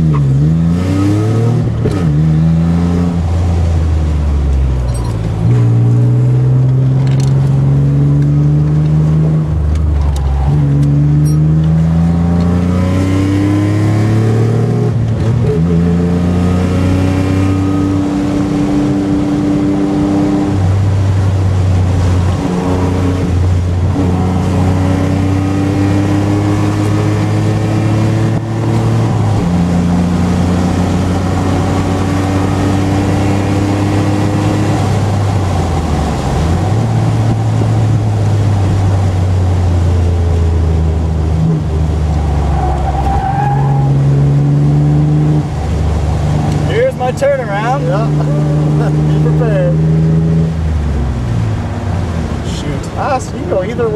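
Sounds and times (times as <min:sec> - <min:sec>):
car engine revving: 0:00.0 - 0:53.9
wind and road noise: 0:00.0 - 0:53.9.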